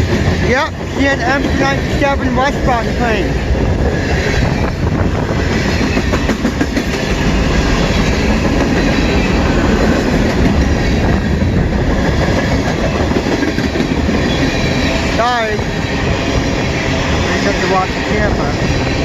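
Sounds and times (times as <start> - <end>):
freight train wheels clattering: 0.0 - 19.0.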